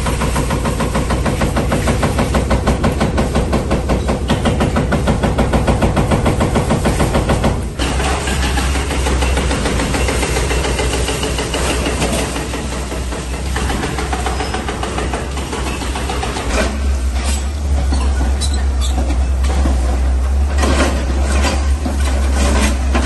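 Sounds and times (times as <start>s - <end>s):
excavator diesel engine running: 0.0s - 23.0s
sharp knocks and clanks: 0.0s - 23.0s.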